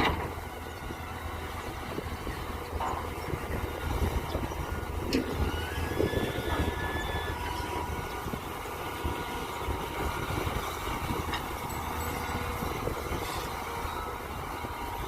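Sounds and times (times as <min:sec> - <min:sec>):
diesel excavator engine: 0:00.0 - 0:15.0.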